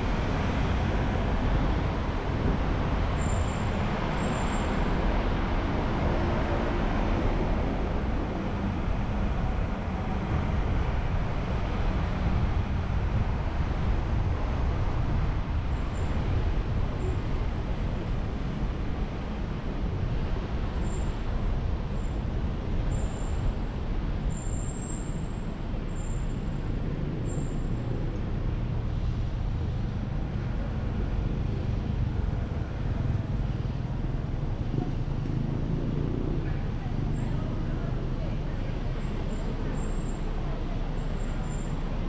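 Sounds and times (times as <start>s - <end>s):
car road noise and engine rumble: 0.0s - 42.0s.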